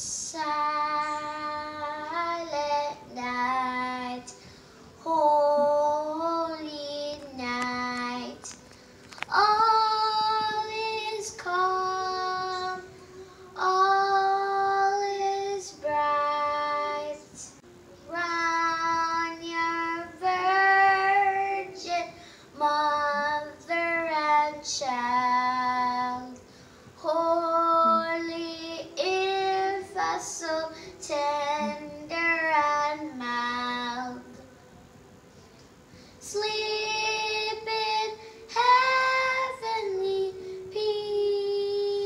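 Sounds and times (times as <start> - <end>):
young girl singing: 0.0 - 42.0.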